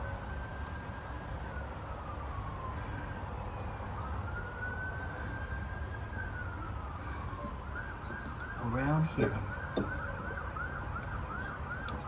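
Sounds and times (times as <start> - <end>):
faint siren wailing: 0.0 - 12.0.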